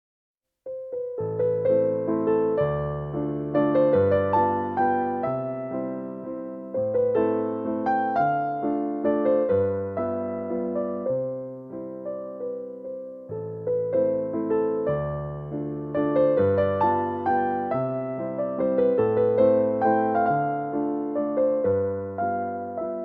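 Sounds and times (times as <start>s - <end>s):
gentle electric piano melody: 0.7s - 23.0s.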